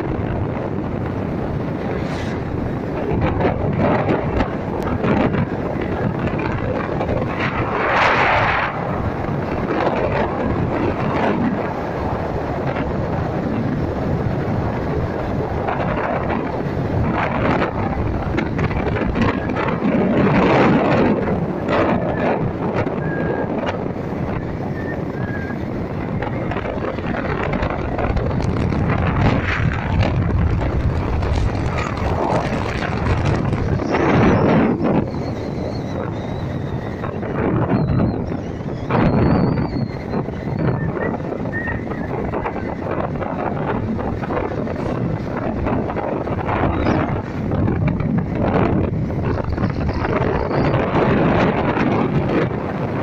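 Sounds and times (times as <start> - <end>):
motorcycle engine rumble: 0.0 - 53.0
wind buffeting microphone: 0.0 - 53.0.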